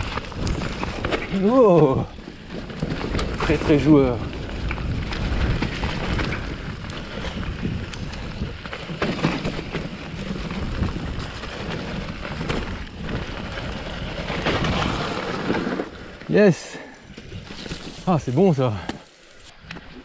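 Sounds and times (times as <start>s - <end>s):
bike tyres crunching over dry leaves: 0.0s - 20.0s.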